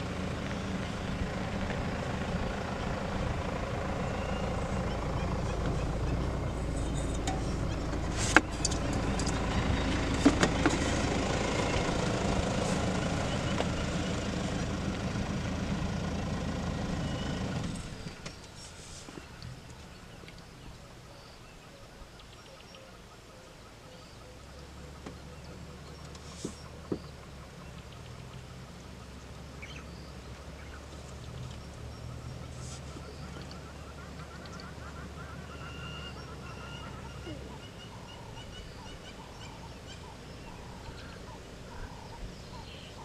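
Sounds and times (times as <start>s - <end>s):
vehicle engine idling: 0.0s - 43.0s.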